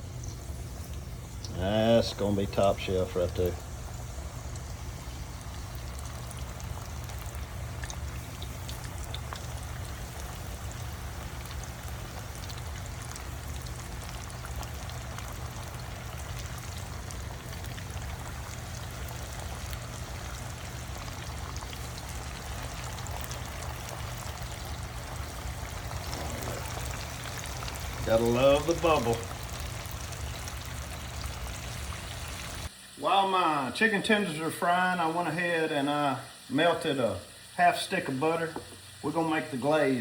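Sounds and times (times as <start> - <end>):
chicken deep-frying in oil: 0.0 - 40.0.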